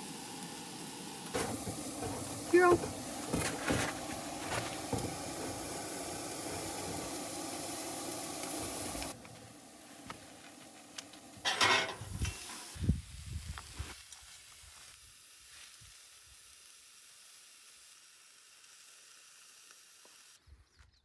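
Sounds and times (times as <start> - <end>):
food sizzling in a frying pan: 0.0 - 20.4.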